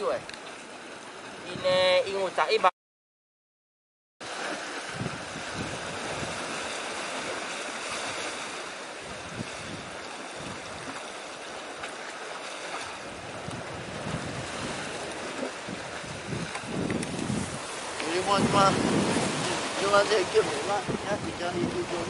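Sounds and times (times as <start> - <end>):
sea and surf: 0.0 - 2.7, 4.2 - 22.0
wind buffeting microphone: 1.2 - 2.1, 4.6 - 12.0, 12.6 - 22.0.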